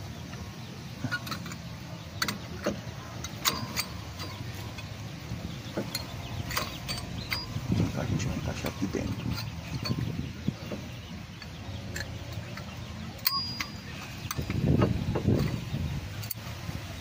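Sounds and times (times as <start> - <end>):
light metallic clicks and clinks: 1.0 - 5.0, 5.7 - 16.5.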